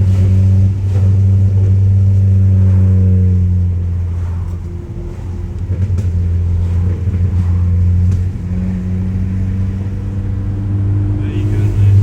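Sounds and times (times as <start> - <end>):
car exhaust droning: 0.0 - 12.0.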